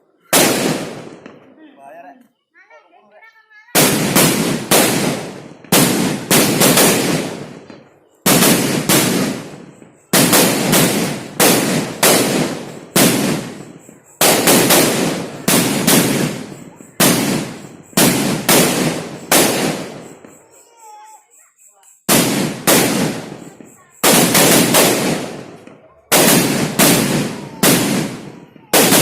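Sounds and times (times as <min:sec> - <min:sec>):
firecrackers banging: 0:00.1 - 0:01.8, 0:03.6 - 0:29.0.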